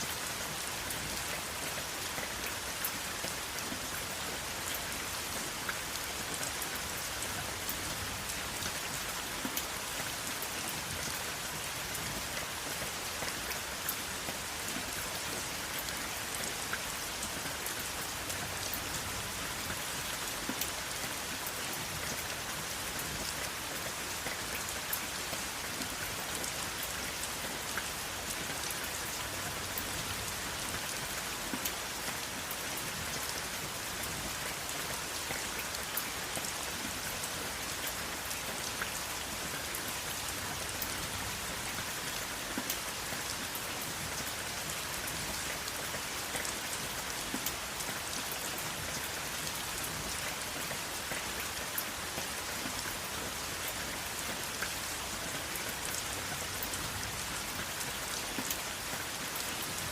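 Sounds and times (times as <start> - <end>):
steady rain hiss: 0.0 - 59.9
raindrops ticking on a surface: 0.1 - 59.9.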